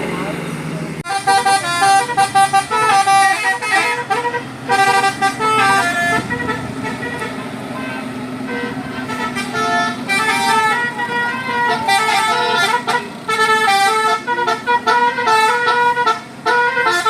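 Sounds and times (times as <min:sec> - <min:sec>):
bus engine running: 0:00.0 - 0:17.0
bus musical horn tune: 0:01.0 - 0:17.0.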